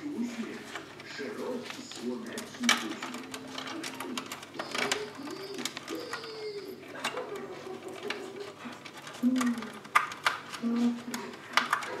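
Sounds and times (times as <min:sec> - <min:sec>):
wires and connectors rattling: 0:00.0 - 0:12.0.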